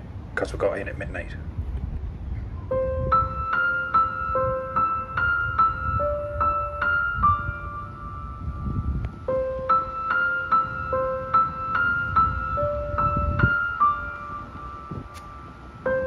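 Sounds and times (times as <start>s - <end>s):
piano melody: 2.5s - 16.0s.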